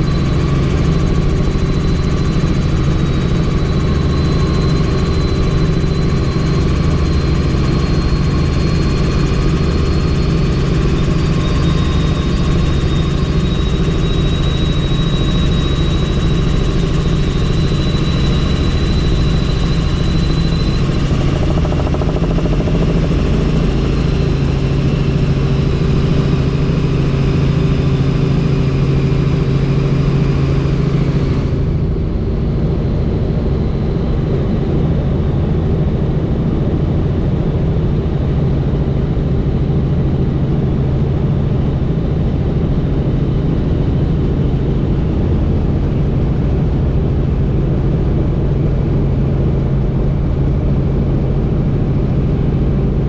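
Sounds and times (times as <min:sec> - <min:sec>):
helicopter rotor and engine noise: 0:00.0 - 0:53.0
high turbine whine: 0:00.0 - 0:53.0.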